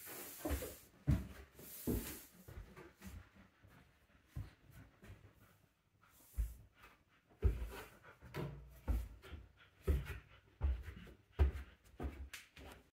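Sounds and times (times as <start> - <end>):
footsteps on wooden stairs: 0.0 - 12.9.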